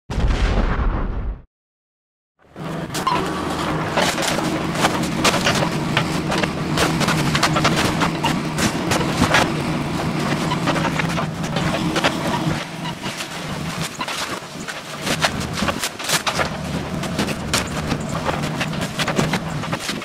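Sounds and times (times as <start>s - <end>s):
excavator diesel engine running: 2.4s - 20.0s
clanks from excavator tracks: 2.6s - 20.0s.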